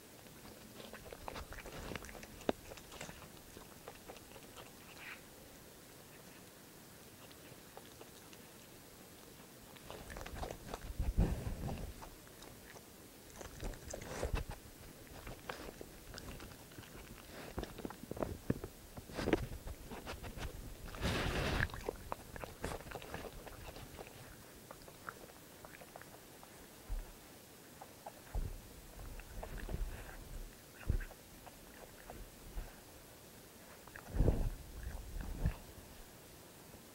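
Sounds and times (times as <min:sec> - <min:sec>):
raccoon chewing food: 0:00.0 - 0:36.9.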